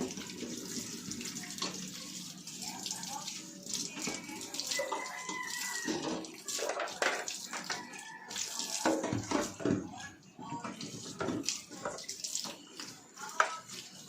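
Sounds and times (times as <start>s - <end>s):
tap water running and splashing: 0.0s - 14.0s.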